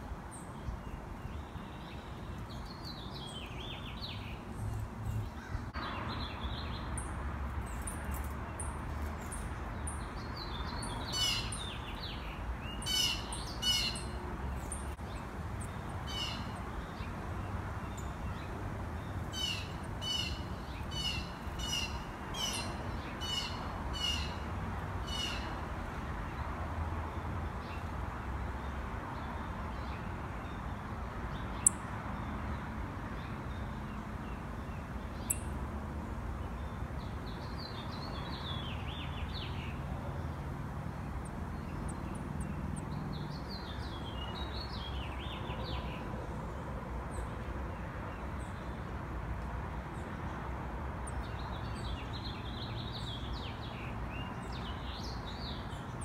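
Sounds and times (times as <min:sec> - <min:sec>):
songbirds calling: 0:00.0 - 0:26.5, 0:27.2 - 0:35.6, 0:41.0 - 0:47.3, 0:51.0 - 0:56.0.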